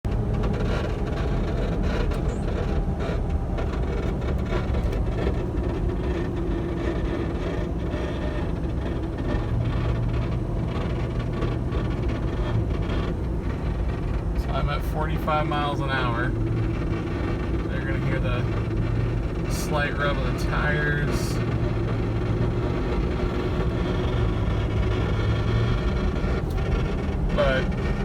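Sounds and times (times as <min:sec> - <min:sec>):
car road noise rumble: 0:00.0 - 0:28.0
low steady hum: 0:00.1 - 0:28.0.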